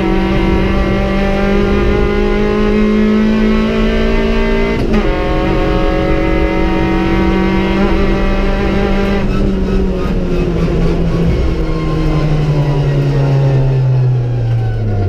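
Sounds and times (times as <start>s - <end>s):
car engine revving down: 0.0s - 15.0s.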